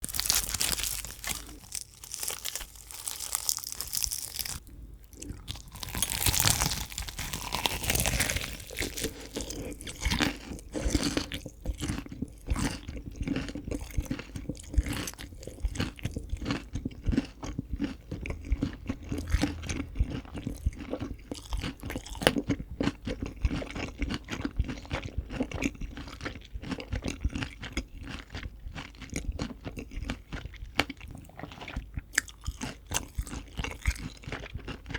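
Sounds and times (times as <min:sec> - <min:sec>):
fried chicken crunching: 0:00.0 - 0:34.9.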